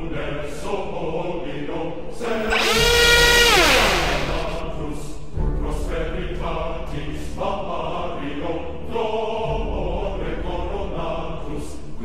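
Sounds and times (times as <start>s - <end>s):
choir-like background music: 0.0s - 2.3s, 4.6s - 12.0s.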